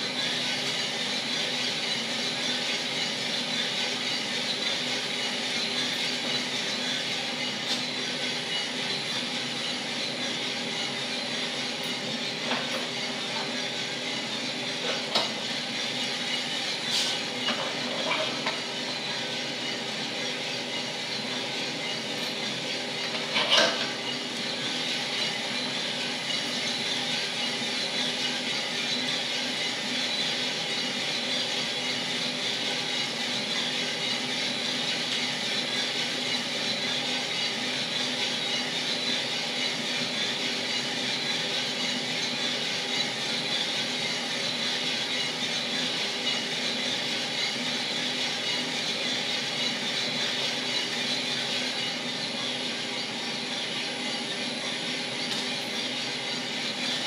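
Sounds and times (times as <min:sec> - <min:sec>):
coffee roaster drum humming: 0:00.0 - 0:57.0.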